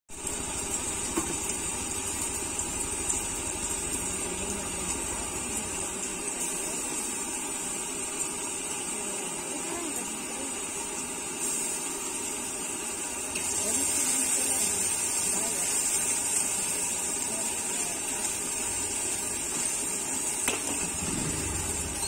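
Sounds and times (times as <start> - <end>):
egg sizzling in a wok: 0.1 - 22.0
gas burner hissing: 0.1 - 22.0.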